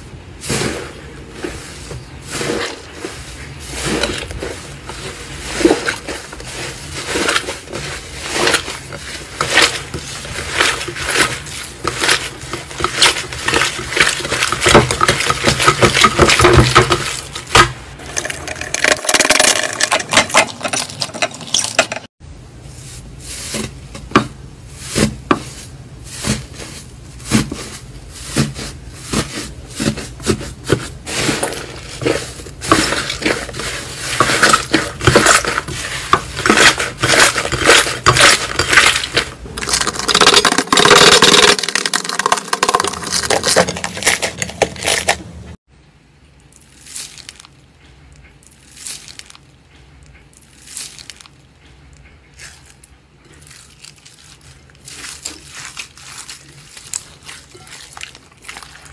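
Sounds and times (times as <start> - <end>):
slime crackling and squishing: 0.4 - 21.8, 22.8 - 45.5, 46.5 - 58.9.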